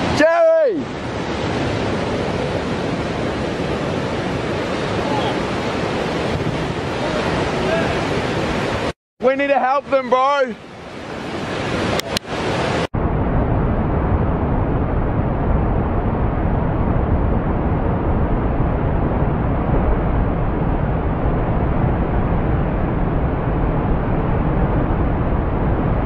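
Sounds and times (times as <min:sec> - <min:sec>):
wind buffeting microphone: 0:00.0 - 0:08.9, 0:10.7 - 0:26.0
breaking surf: 0:00.0 - 0:26.0.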